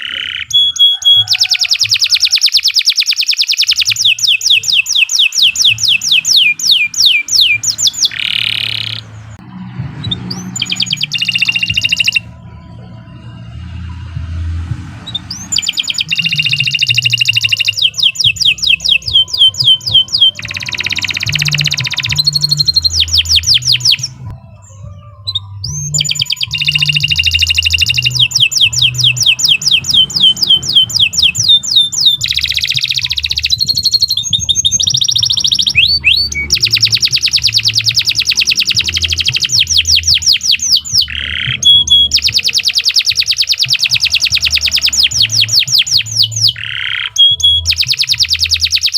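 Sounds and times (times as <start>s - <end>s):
canary singing trills: 0.0s - 14.1s, 14.8s - 48.9s.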